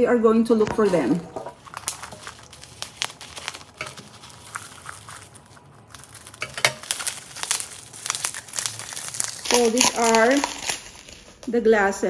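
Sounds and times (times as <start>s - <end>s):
bubble wrap crinkling: 0.6s - 11.6s.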